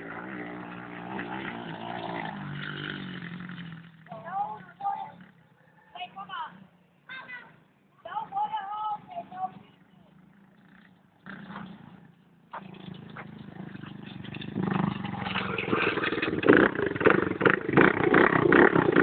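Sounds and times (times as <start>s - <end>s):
dirt bike engine running: 0.0s - 6.6s, 9.2s - 19.0s.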